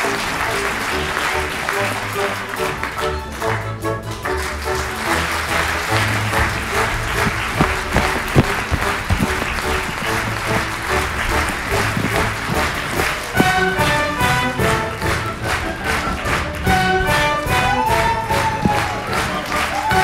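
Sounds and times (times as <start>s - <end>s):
audience applauding: 0.0s - 20.0s
orchestra playing: 0.0s - 20.0s.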